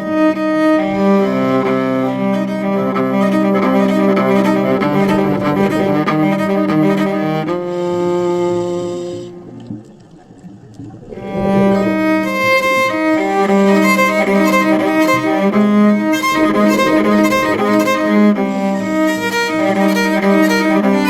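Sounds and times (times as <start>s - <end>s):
violin and cello music: 0.0s - 9.6s, 11.0s - 21.0s.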